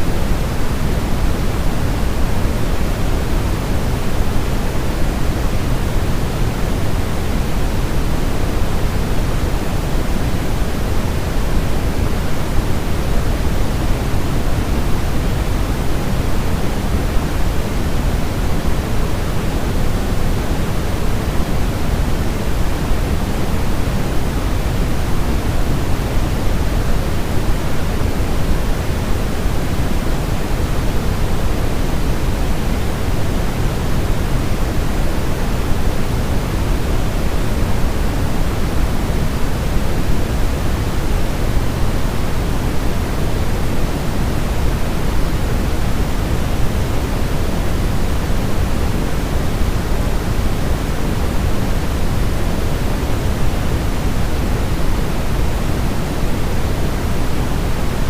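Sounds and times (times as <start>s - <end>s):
steady white noise: 0.0s - 58.0s.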